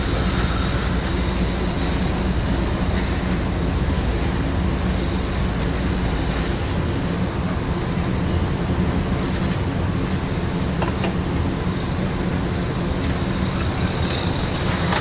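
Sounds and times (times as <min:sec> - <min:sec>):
small wheels rumbling on rail: 0:00.0 - 0:15.0.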